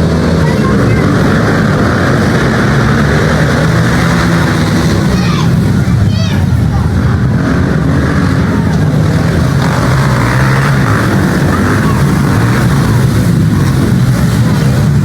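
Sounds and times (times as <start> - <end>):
pit bike engines running: 0.0 - 15.0.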